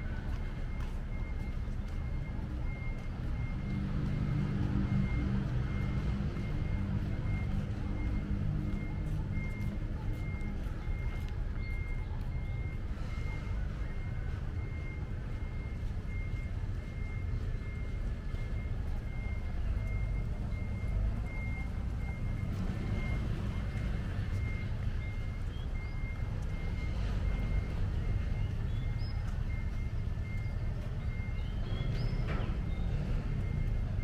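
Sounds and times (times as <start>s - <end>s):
city background rumble: 0.0s - 34.0s
reversing alarm beeping: 0.0s - 34.0s.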